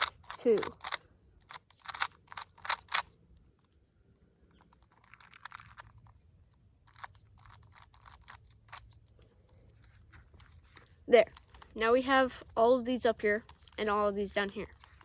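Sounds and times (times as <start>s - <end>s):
puzzle cube plastic clicks: 0.0s - 3.8s, 4.5s - 9.6s, 10.4s - 15.0s.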